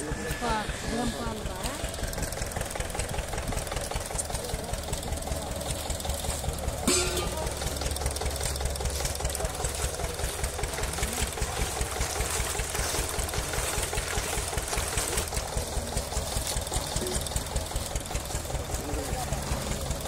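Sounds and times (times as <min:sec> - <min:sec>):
engine running with regular knock: 0:00.0 - 0:20.0.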